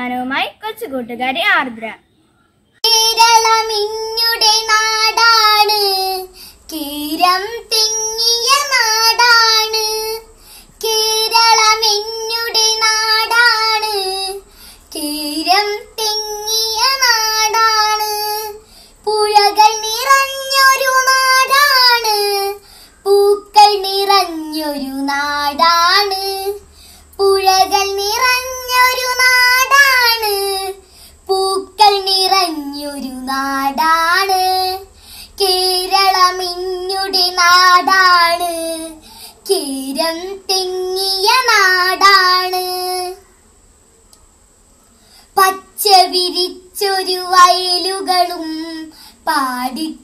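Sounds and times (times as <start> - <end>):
girl singing: 2.8 - 43.4, 45.2 - 50.0.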